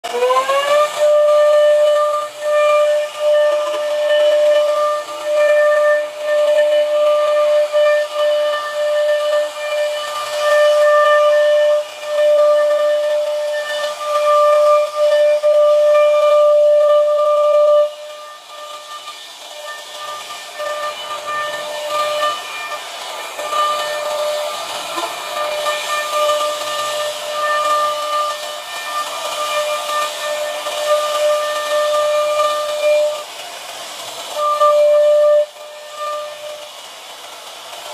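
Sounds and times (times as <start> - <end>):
router spindle whining: 0.0 - 37.9.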